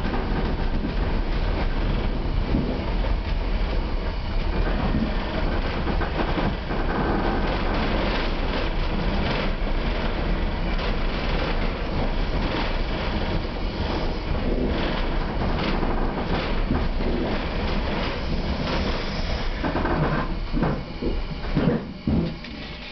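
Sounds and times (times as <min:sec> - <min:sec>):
train carriage rumble and rattle: 0:00.0 - 0:22.9
train clunks: 0:00.0 - 0:22.9.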